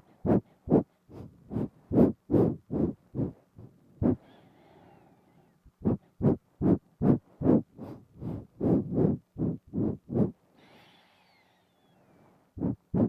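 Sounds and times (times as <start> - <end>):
quick breaths through the nose: 0.0 - 5.2, 5.8 - 13.0.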